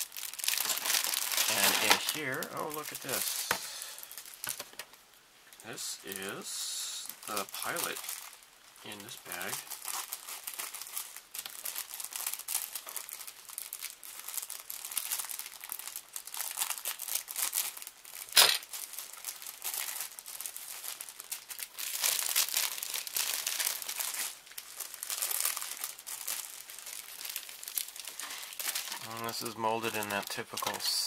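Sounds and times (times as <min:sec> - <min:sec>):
plastic bag crinkling: 0:00.0 - 0:31.0.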